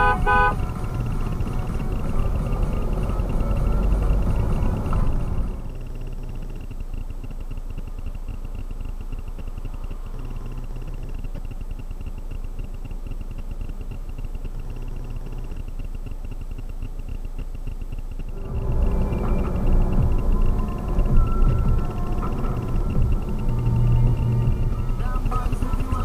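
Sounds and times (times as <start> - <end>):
car engine idling: 0.0 - 26.0
fast even ticking: 0.0 - 26.0.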